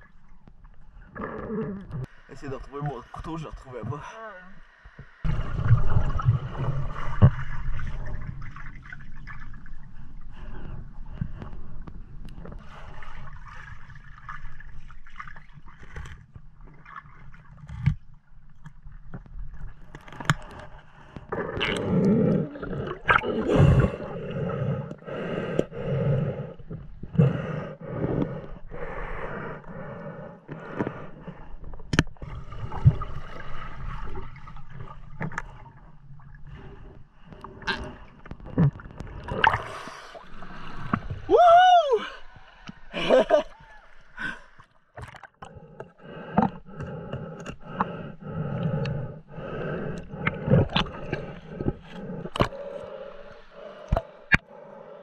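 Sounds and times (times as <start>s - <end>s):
water gurgling and sloshing: 0.0s - 55.0s.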